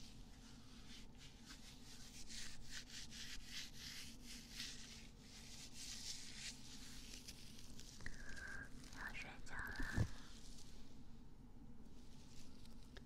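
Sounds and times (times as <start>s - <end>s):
soft rubbing and scraping strokes: 0.0s - 13.0s.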